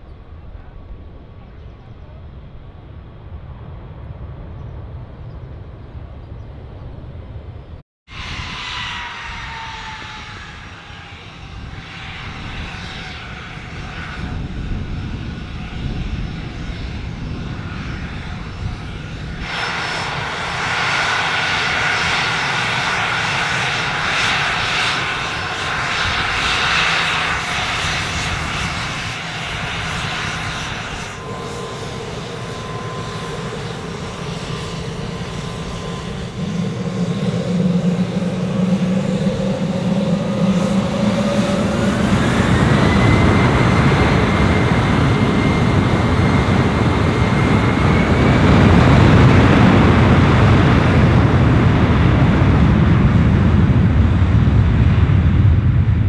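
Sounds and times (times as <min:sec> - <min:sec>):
jet engine rush: 0:00.0 - 0:56.0
jet engines whining: 0:00.0 - 0:56.0
low engine drone: 0:00.0 - 0:56.0.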